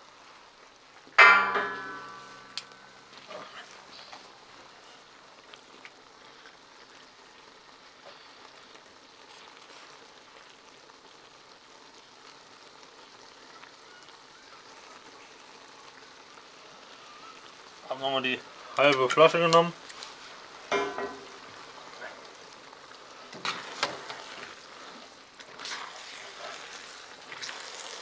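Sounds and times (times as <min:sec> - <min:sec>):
food sizzling in a wok: 0:00.0 - 0:28.0
small crackles: 0:00.0 - 0:28.0.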